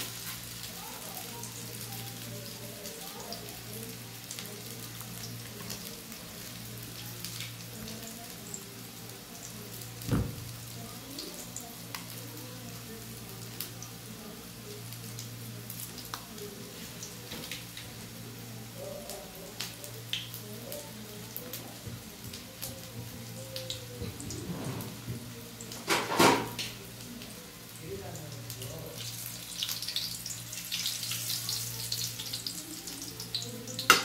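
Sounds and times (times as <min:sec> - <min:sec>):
patties sizzling in frying pan: 0:00.0 - 0:34.0.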